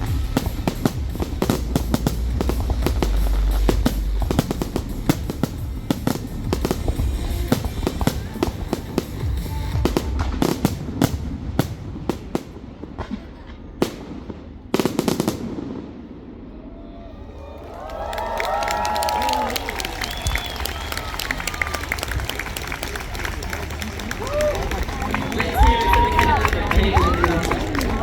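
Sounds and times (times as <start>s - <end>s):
fireworks crackles and bangs: 0.0s - 16.8s, 17.8s - 28.0s
deep fireworks booms: 0.0s - 17.4s, 19.8s - 28.0s.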